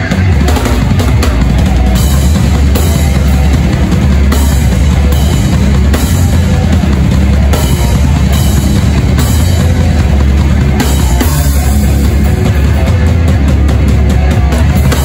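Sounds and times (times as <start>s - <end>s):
pounding bass drum: 0.0s - 15.0s
punk band playing live: 0.0s - 15.0s.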